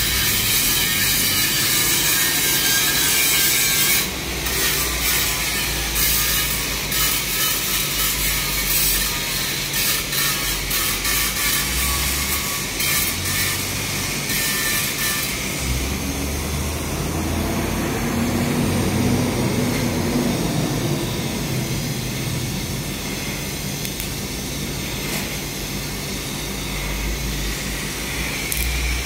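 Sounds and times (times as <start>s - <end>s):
welding arc hissing: 0.0s - 17.8s, 18.4s - 29.0s.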